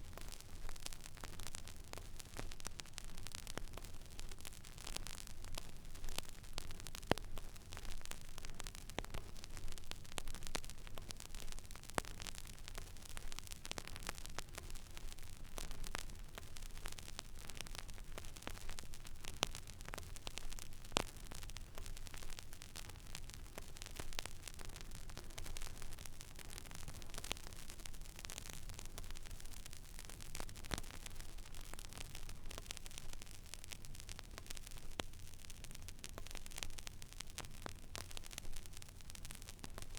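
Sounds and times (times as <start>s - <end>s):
vinyl crackles and pops: 0.0s - 39.9s.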